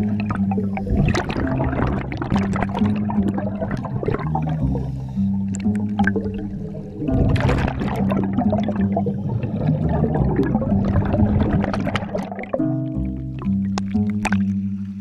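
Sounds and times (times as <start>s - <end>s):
scuba diver breathing underwater: 0.0s - 12.3s
air bubbling underwater: 0.0s - 14.6s.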